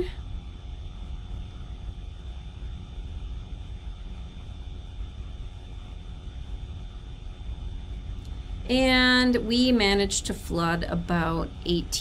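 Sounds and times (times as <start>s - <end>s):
faint high-pitched whine: 0.0s - 12.0s
low background rumble: 0.0s - 12.0s.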